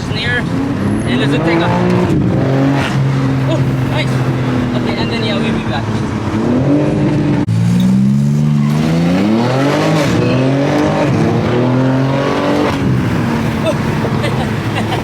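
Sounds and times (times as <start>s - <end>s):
car engine revving and shifting: 0.0s - 15.0s.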